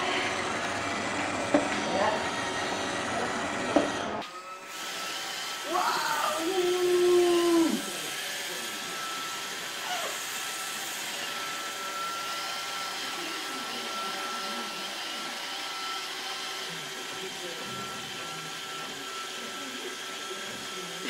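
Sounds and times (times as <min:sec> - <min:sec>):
robot vacuum whirring: 0:00.0 - 0:21.0.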